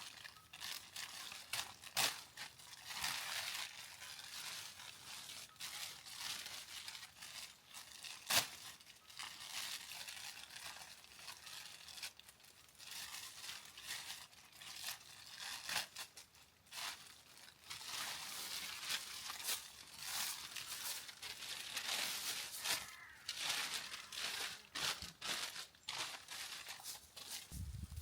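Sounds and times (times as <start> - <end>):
crinkling and rustling: 0.0 - 28.0.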